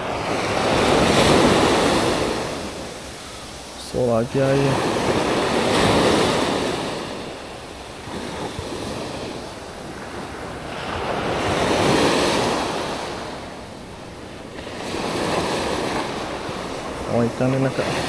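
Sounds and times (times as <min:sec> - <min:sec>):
waves breaking at shore: 0:00.0 - 0:18.0.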